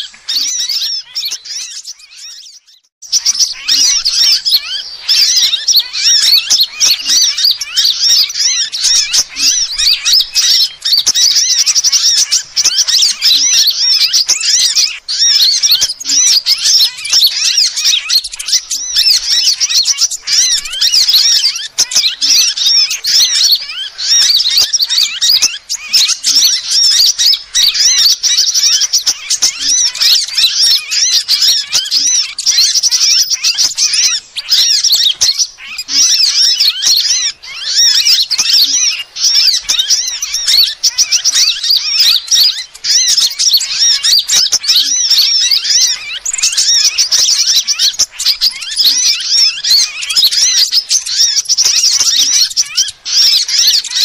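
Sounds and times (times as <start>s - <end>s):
sunbirds twittering: 0.0s - 54.0s.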